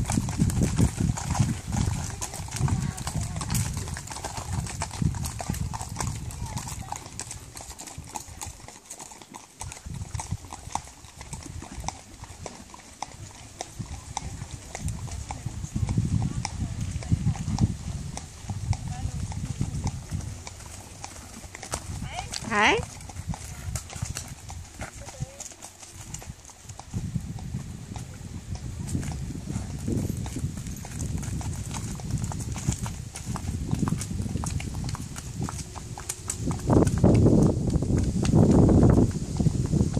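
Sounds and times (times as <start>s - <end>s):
horse hooves on hard road: 0.0s - 39.9s.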